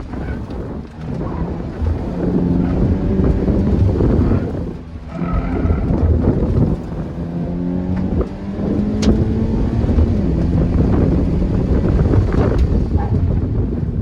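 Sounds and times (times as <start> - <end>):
car engine revving: 0.0 - 14.0
wind noise on microphone: 0.0 - 14.0.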